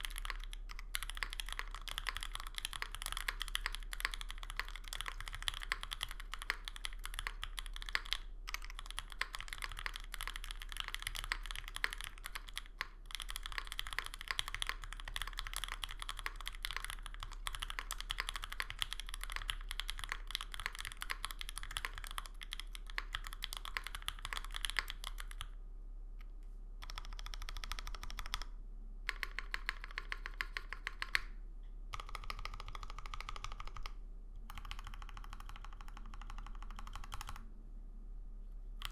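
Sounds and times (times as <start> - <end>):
mechanical keyboard typing: 0.0 - 25.5, 26.8 - 28.5, 29.1 - 31.3, 31.9 - 37.4.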